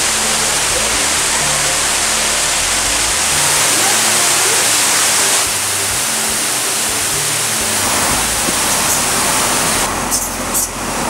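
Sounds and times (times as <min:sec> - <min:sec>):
soft background music: 0:00.0 - 0:11.0
waterfall rushing: 0:00.0 - 0:11.0.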